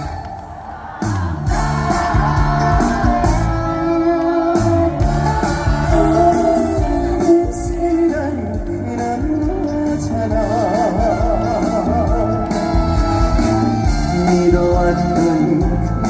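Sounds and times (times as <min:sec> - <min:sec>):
bass: 0:00.0 - 0:16.0
steady drum beat: 0:00.0 - 0:16.0
melodic lead line: 0:01.4 - 0:16.0.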